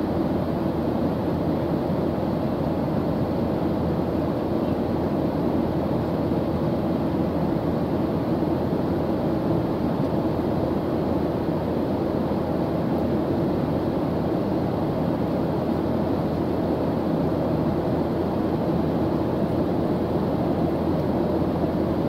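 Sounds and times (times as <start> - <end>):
jet airliner cabin hum: 0.0 - 22.0.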